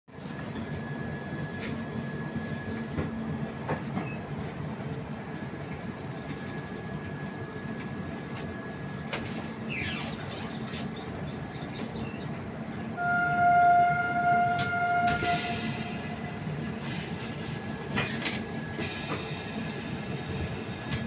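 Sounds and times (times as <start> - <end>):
train rumble: 0.1 - 21.0.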